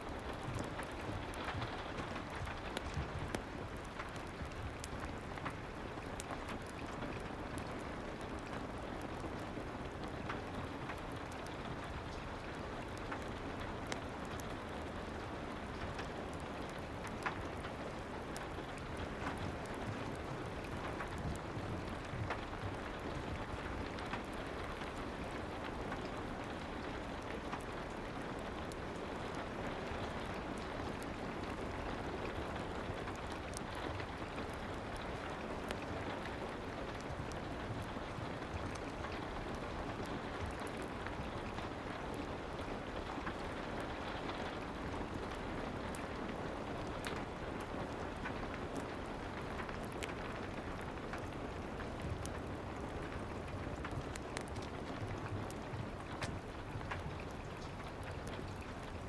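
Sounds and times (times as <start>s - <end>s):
faint clicks and crackles: 0.0s - 59.0s
steady soft rain: 0.0s - 59.0s.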